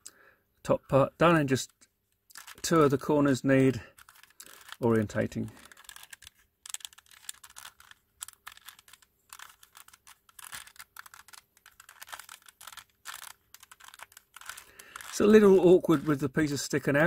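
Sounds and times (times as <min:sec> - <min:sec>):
puzzle pieces clicking: 0:01.6 - 0:03.1, 0:03.8 - 0:16.3.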